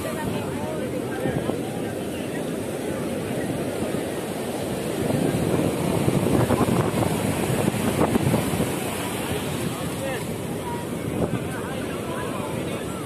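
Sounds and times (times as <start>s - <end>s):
ocean surf on beach: 0.0s - 13.0s
wind buffeting microphone: 0.0s - 13.0s.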